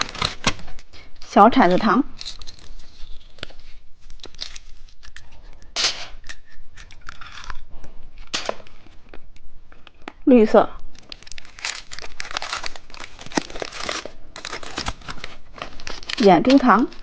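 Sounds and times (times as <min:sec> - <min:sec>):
plastic wrapper crinkling: 0:00.0 - 0:01.3, 0:02.0 - 0:10.2, 0:10.8 - 0:17.0.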